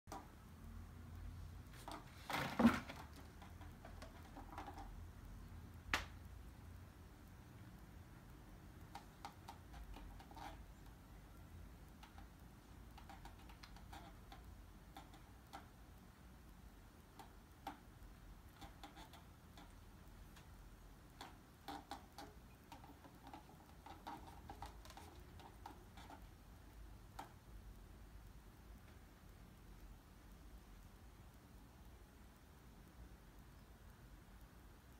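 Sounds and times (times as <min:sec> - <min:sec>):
faint clicks and ticks: 0:00.1 - 0:34.9.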